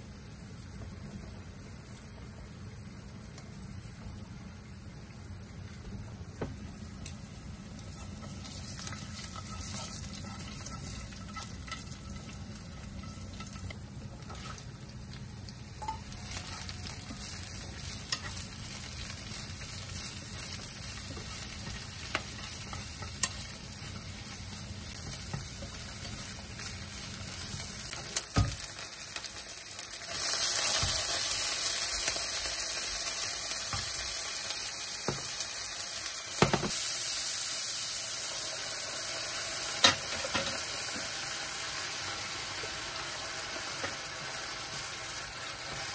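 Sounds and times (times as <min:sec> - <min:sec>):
garlic sizzling in oil: 0:00.0 - 0:45.9
loud hissing sizzle: 0:00.0 - 0:45.9.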